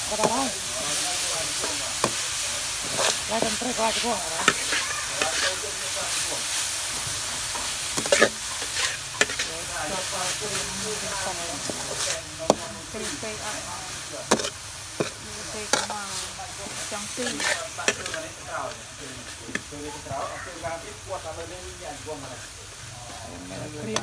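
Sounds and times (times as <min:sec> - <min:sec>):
food sizzling in a wok: 0:00.0 - 0:24.0
metal spatula scraping a pan: 0:00.1 - 0:19.9.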